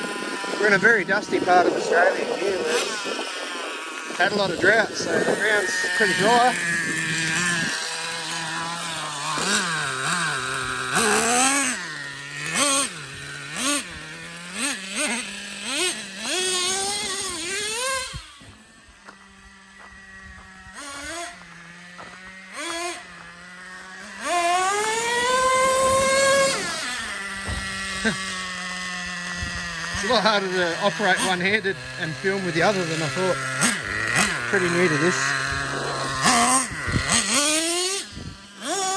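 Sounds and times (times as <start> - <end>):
model truck engine revving: 0.0 - 38.9.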